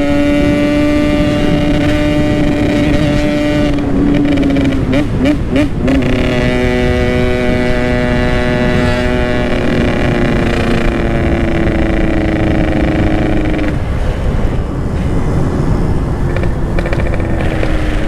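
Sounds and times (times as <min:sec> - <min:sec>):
two-stroke motorcycle engine: 0:00.0 - 0:18.0.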